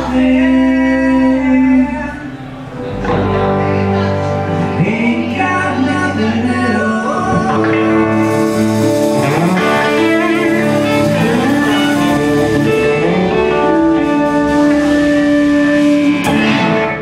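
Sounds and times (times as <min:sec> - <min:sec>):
electric guitar held notes: 0:00.0 - 0:17.0
live rock band playing: 0:00.0 - 0:17.0.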